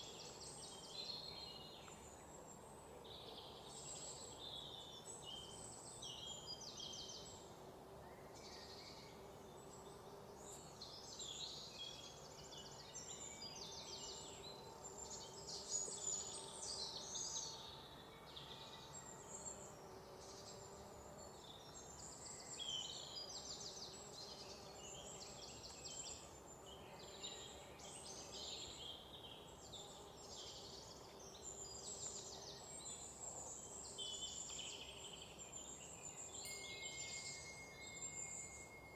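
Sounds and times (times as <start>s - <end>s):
outdoor ambience: 0.0s - 38.9s.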